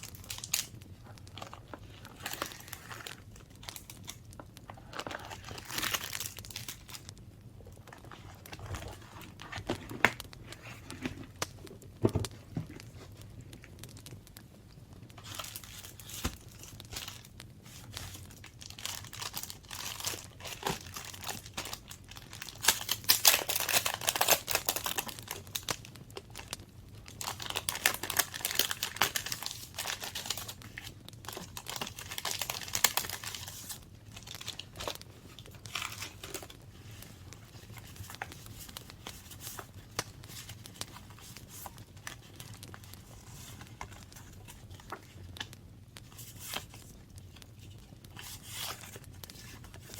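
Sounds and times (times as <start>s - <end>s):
paper crumpling and tearing: 0.0s - 7.0s, 15.2s - 25.8s, 27.1s - 49.9s.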